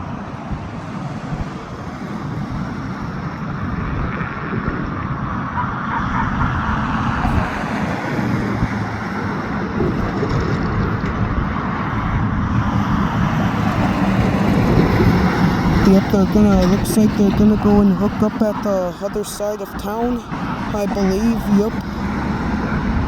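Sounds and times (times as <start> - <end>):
diesel locomotive engines rumbling: 0.0 - 23.0.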